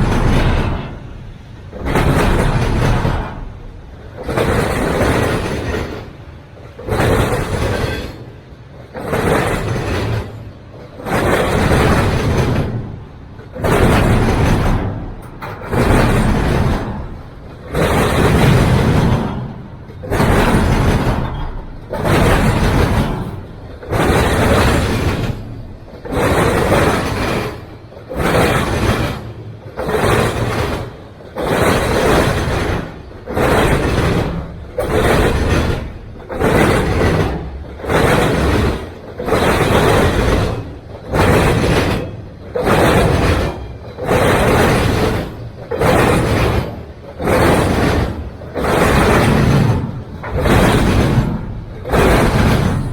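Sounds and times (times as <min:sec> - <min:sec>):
train wheels rumbling and clattering: 0:00.0 - 0:52.9.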